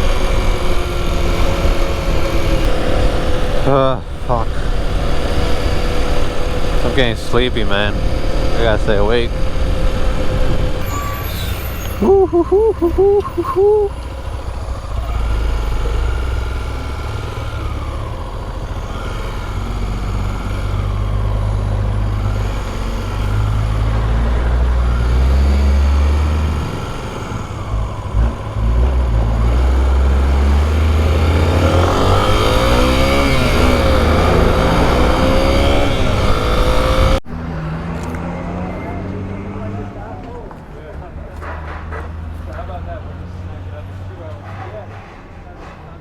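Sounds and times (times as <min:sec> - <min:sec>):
motorcycle engine revving: 0:00.0 - 0:45.4.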